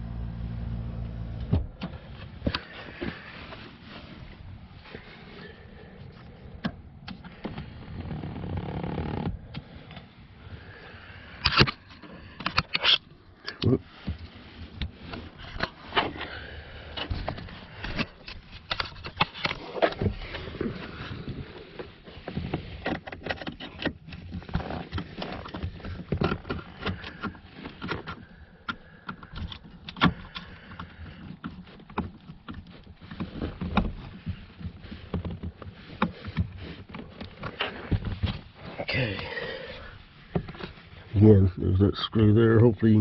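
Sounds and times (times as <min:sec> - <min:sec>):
rustling: 0:00.2 - 0:41.6.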